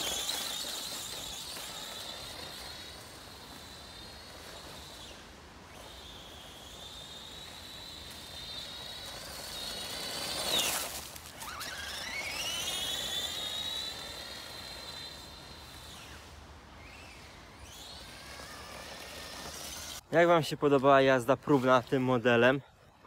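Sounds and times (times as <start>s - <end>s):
toy truck electric motor whining: 0.0s - 20.1s.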